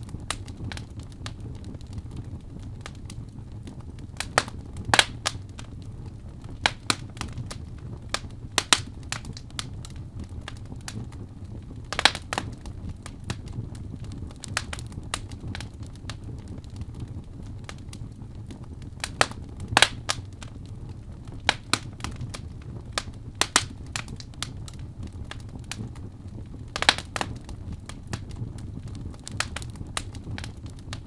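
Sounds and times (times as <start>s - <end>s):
low rumble of flame: 0.0s - 31.0s
wood fire crackling and popping: 0.0s - 31.0s.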